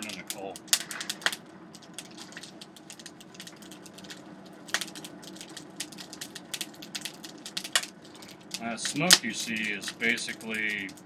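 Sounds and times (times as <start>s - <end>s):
forge fire crackling and popping: 0.0s - 11.0s
low whir of moving air: 0.0s - 11.0s.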